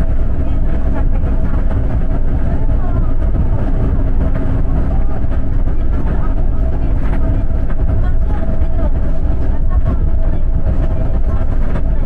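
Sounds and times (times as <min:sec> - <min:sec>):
bus engine and road rumble: 0:00.0 - 0:12.0
steady hum: 0:00.0 - 0:12.0.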